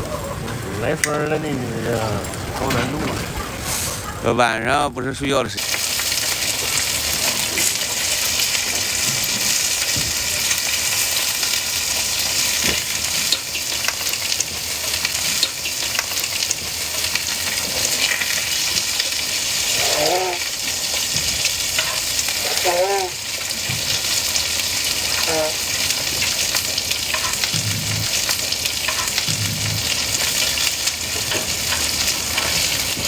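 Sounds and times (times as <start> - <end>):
food sizzling and crackling: 0.0 - 4.2, 5.6 - 33.0.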